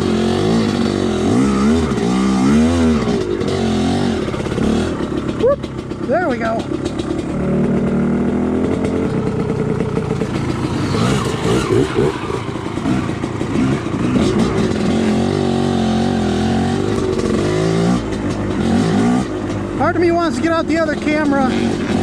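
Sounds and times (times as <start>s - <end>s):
two-stroke dirt bike engine revving: 0.0s - 22.0s.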